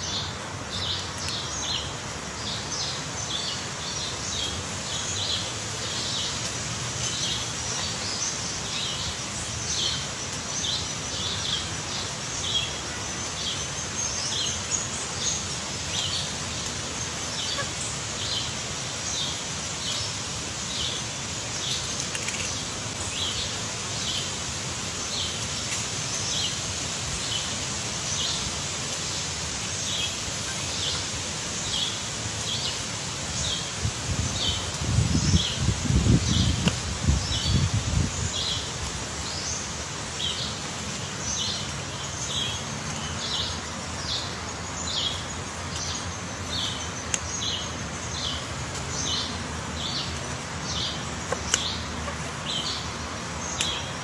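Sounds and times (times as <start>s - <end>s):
outdoor hiss: 0.0s - 54.0s.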